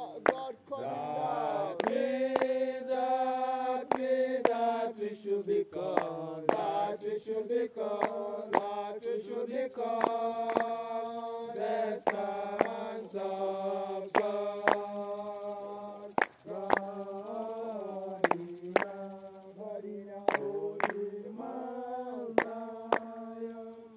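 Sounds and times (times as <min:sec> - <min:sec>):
voices chanting a hymn: 0:00.0 - 0:23.9.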